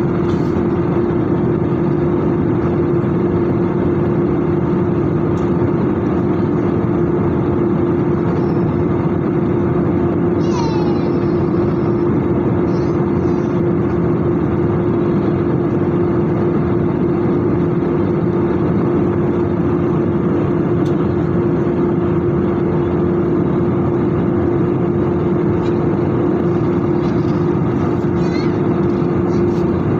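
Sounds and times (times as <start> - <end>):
jet engine roar from inside cabin: 0.0 - 29.9.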